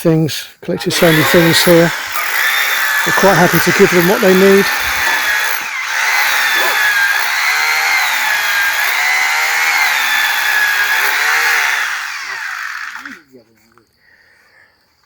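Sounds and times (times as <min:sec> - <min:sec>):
electric power tool whining: 0:00.8 - 0:13.3.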